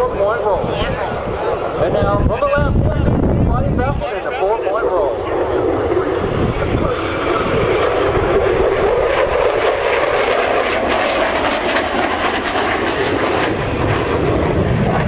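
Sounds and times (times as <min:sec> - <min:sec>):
fighter jet flying past: 0:00.0 - 0:15.0.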